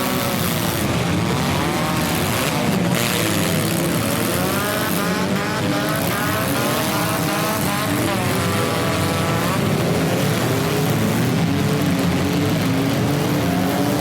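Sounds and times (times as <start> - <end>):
car engines revving: 0.0 - 14.0
crowd noise: 0.0 - 14.0.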